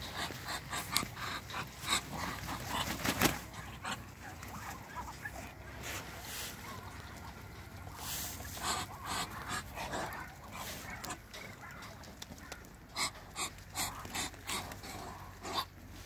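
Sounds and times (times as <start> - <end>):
ducks hissing: 0.0 - 16.0.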